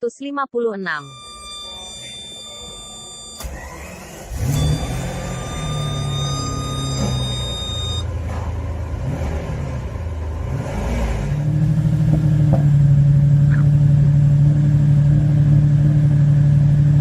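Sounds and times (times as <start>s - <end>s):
engine revving: 1.1s - 17.0s.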